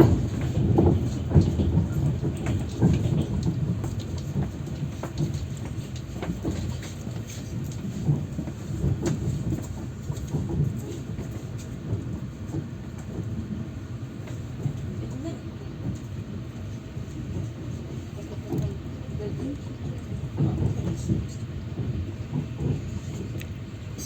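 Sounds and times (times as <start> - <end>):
train rumbling and clattering: 0.0 - 24.0.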